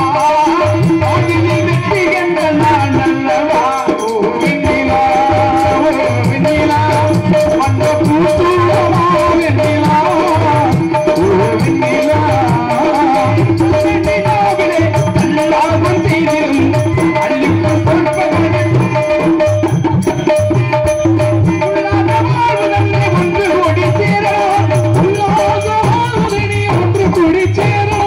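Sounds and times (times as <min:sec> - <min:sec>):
barrel drum rhythm: 0:00.0 - 0:28.0.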